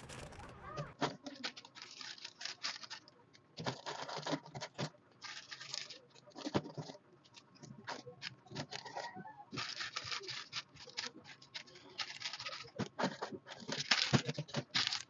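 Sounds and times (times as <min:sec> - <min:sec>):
food containers and packaging handled: 0:00.0 - 0:15.0.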